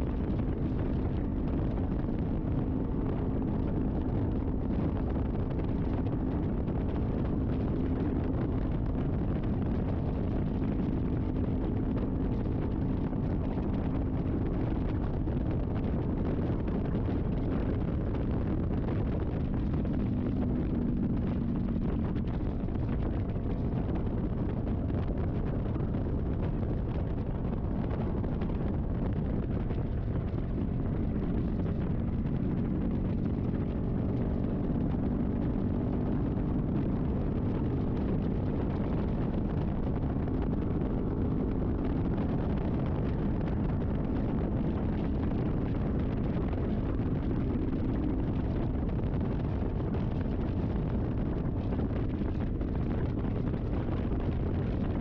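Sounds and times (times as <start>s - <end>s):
wind rushing over microphone: 0.0s - 55.0s
motorcycle engine running: 0.2s - 53.8s.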